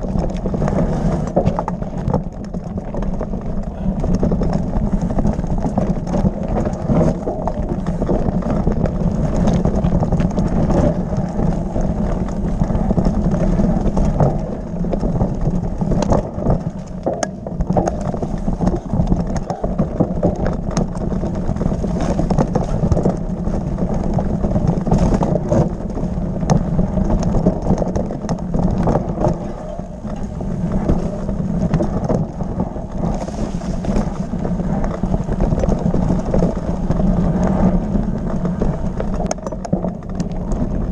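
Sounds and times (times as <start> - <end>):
bike rattling over stones: 0.0 - 40.9
tyre and wind rumble: 0.0 - 40.9.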